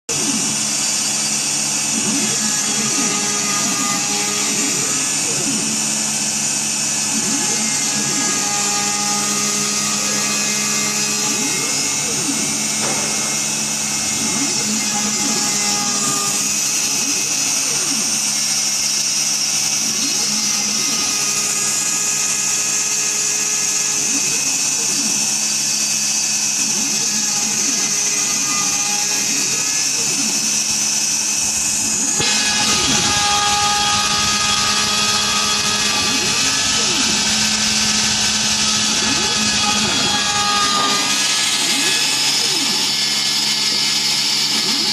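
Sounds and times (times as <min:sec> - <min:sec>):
cnc machine motor hum: 0:00.1 - 0:44.9.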